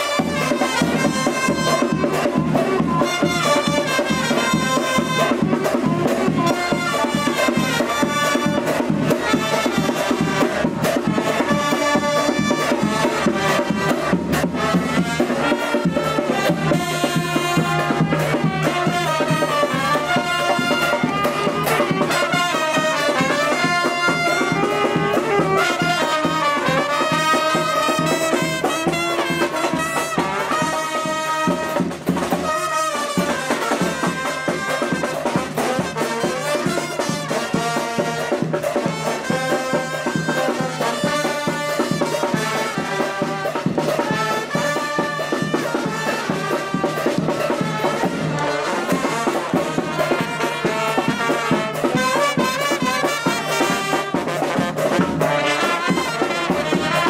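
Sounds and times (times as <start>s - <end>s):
cymbals: 0.0s - 57.0s
saxophone: 0.0s - 57.0s
trombone: 0.0s - 57.0s
trumpets: 0.0s - 57.0s.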